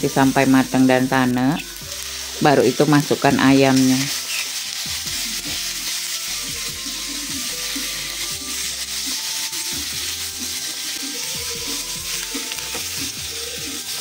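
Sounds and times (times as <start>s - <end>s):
background music: 0.0s - 14.0s
chicken sizzling in a wok: 0.0s - 14.0s
spatula stirring in a wok: 0.0s - 14.0s.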